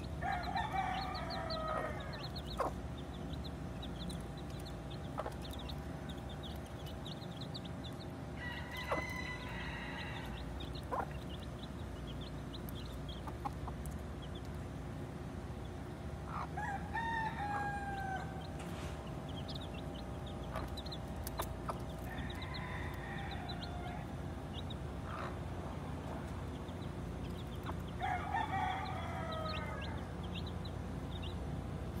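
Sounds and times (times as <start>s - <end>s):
hen clucking: 0.0s - 14.5s, 16.2s - 16.8s, 17.4s - 31.4s
chicks peeping: 0.0s - 32.0s
steady low hum: 0.0s - 32.0s.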